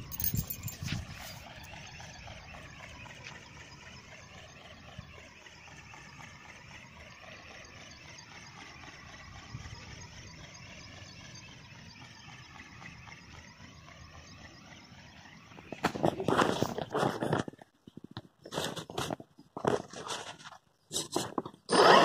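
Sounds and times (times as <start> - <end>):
electric motor whine: 0.1 - 17.4, 21.7 - 22.0.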